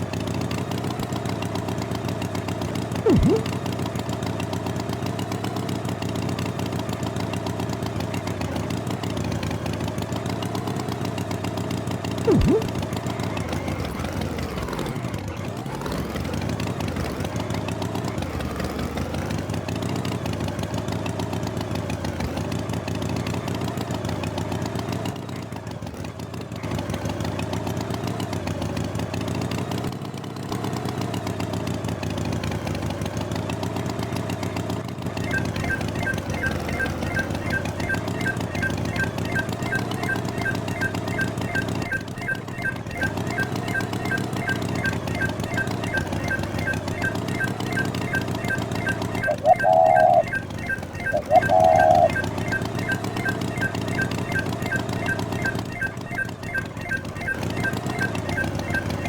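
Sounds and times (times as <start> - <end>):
motor engine running: 0.0 - 59.0.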